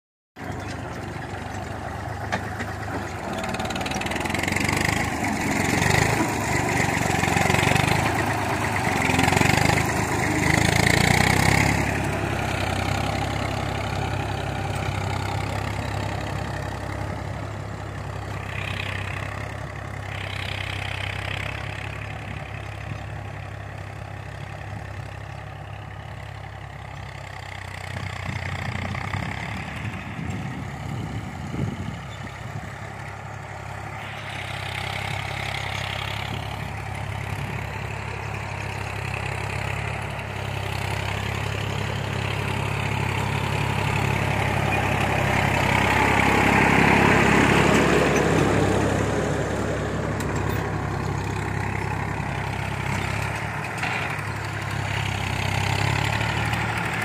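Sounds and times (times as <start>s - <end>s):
tractor diesel engine running: 0.4s - 57.0s.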